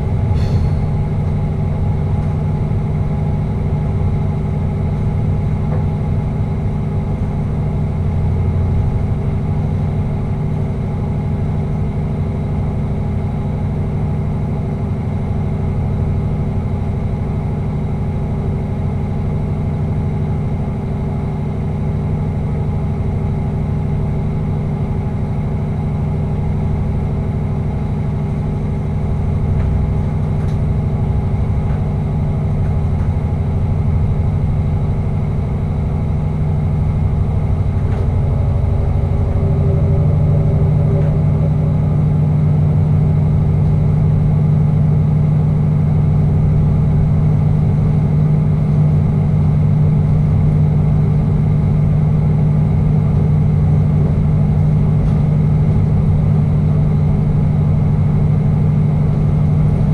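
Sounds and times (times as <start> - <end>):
train running in a tunnel: 0.0 - 59.9.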